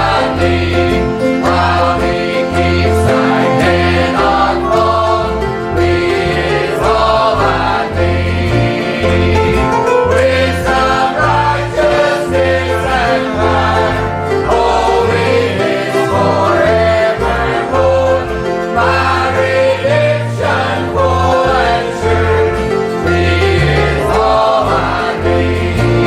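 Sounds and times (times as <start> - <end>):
bass line: 0.0 - 26.0
group singing gospel: 0.0 - 26.0
instrumental accompaniment: 0.0 - 26.0.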